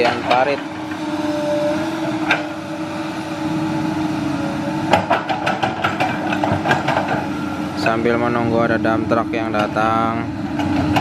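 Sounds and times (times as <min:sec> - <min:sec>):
excavator engine humming: 0:00.0 - 0:11.0.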